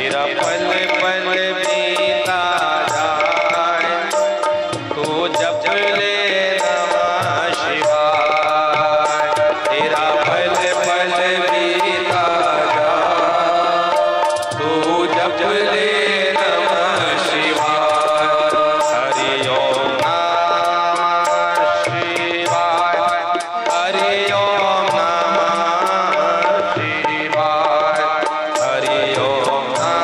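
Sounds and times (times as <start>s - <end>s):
continuous melodic line: 0.0s - 30.0s
tabla drumming: 0.0s - 30.0s.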